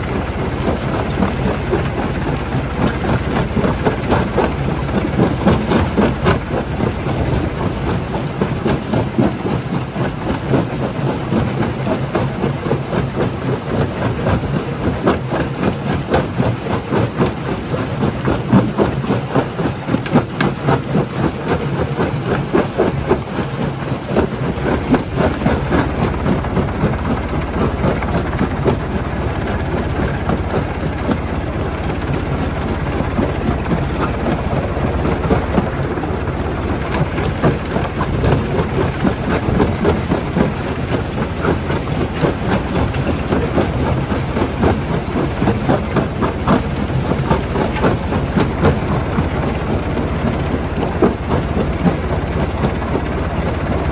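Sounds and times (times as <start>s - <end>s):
stone crusher running: 0.0s - 53.9s.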